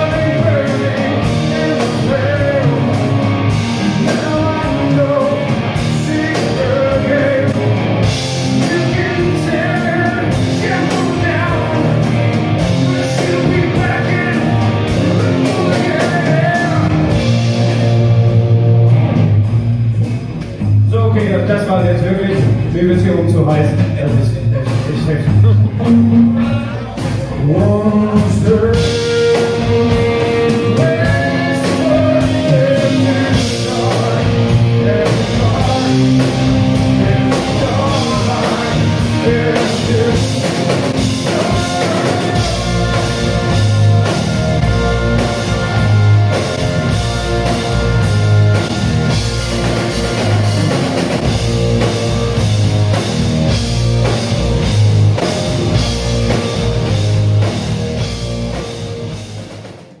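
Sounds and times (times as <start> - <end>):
bass guitar: 0.0 - 60.0
drum kit: 0.0 - 60.0
electric guitars: 0.0 - 60.0.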